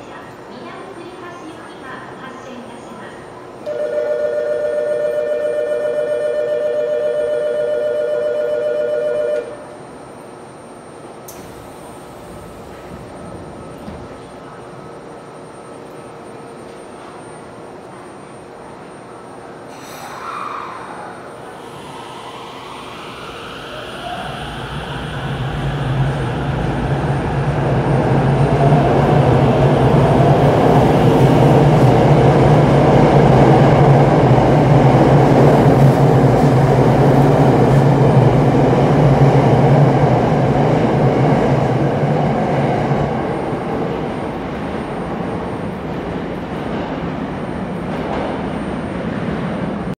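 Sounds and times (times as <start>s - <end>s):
electric train rumbling: 0.0s - 50.0s.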